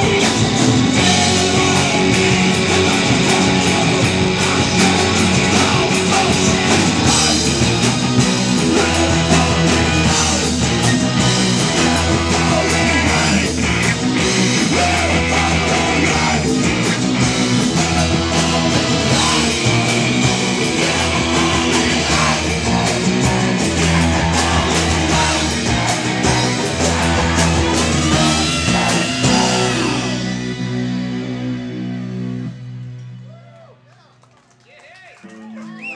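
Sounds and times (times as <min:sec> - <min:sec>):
people singing in unison: 0:00.0 - 0:30.4
live rock band: 0:00.0 - 0:33.6.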